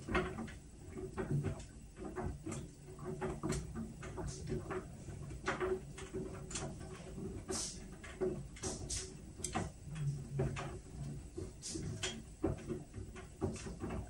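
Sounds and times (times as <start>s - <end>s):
washing machine clicks and knocks: 0.0s - 14.0s
washing machine low hum: 0.0s - 14.0s.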